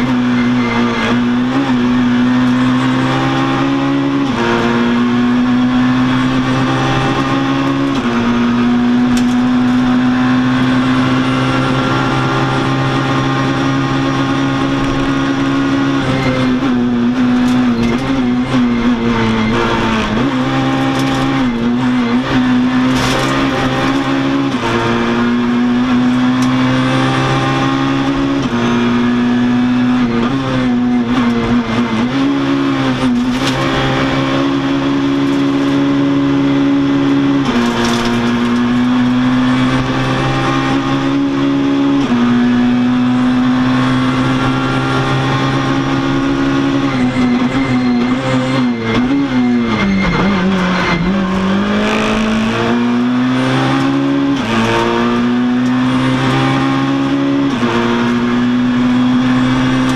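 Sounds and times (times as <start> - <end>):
rally car engine high revs: 0.0 - 59.9.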